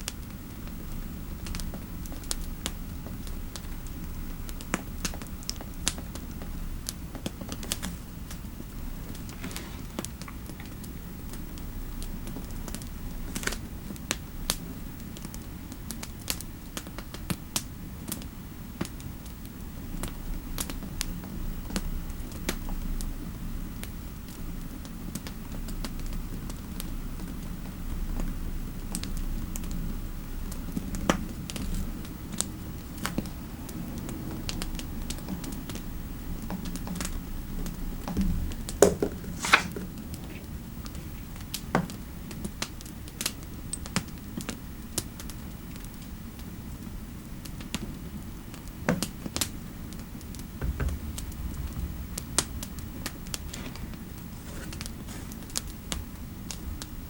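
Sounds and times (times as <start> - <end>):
low fireplace rumble: 0.1 - 17.2, 18.0 - 57.0.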